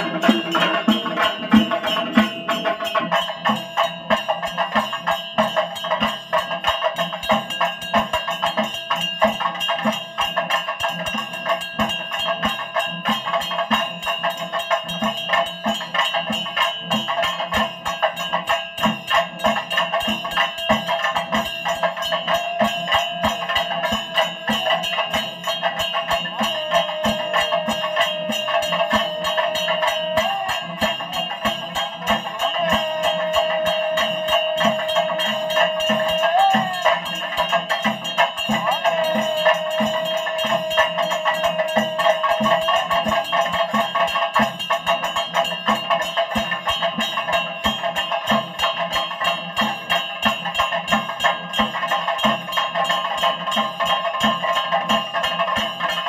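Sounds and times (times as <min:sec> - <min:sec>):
fast percussion strokes: 0:00.0 - 0:56.0
high ringing tones: 0:00.0 - 0:56.0.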